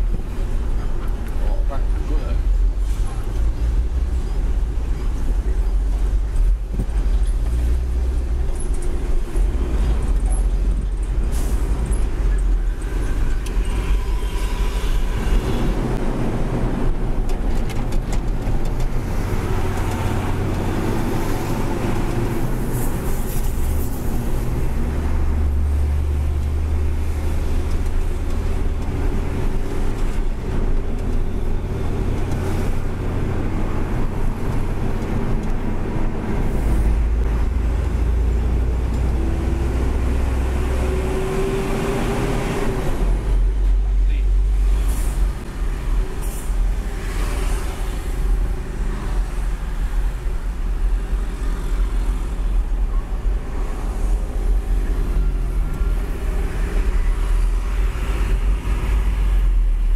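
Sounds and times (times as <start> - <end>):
traffic noise: 0.0 - 59.9.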